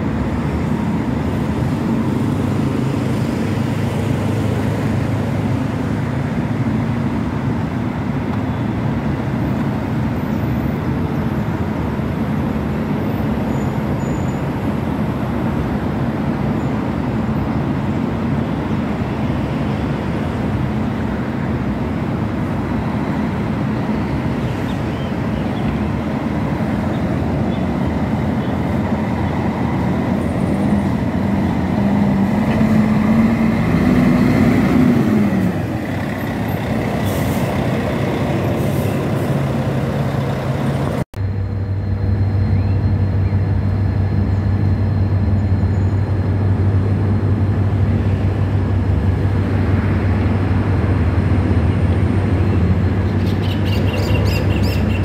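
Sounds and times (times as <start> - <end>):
diesel coach engine accelerating: 0.0 - 55.0
low diesel hum: 0.0 - 55.0.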